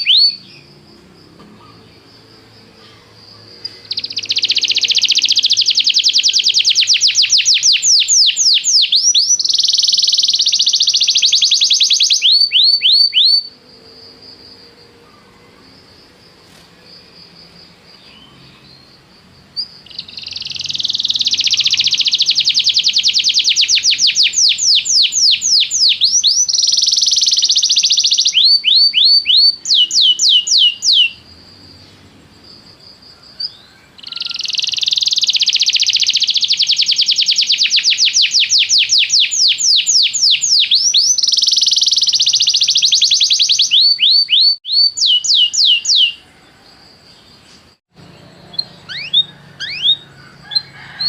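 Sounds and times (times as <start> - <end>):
canary singing: 0.0 - 0.9, 1.5 - 14.1, 17.4 - 31.3, 33.3 - 46.3, 47.2 - 51.0.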